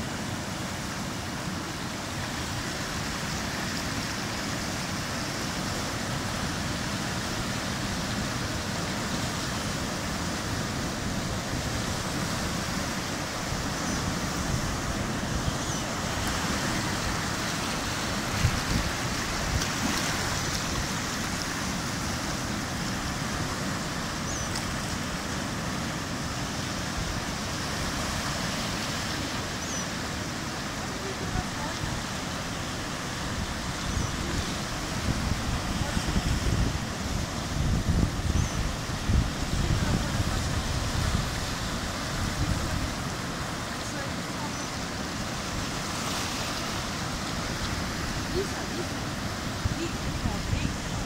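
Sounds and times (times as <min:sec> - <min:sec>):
surf washing over rocks: 0:00.0 - 0:51.0.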